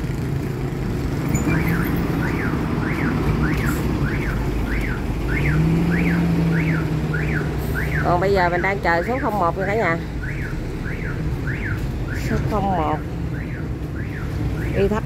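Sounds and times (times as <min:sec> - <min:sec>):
bus engine idling: 0:00.0 - 0:15.0
vehicle warning alarm chirping: 0:01.3 - 0:15.0.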